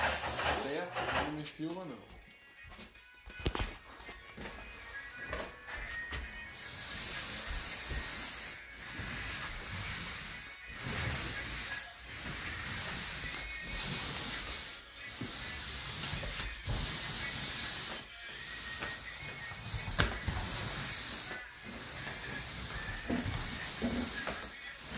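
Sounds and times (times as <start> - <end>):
paint roller hissing on ceiling: 0.0 - 0.9, 4.7 - 24.9.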